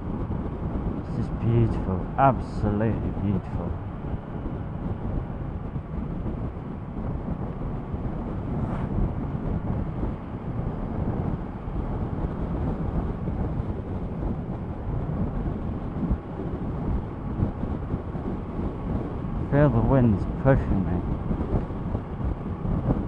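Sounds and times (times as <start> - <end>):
wind buffeting microphone: 0.0 - 23.0
motorcycle running: 3.1 - 23.0.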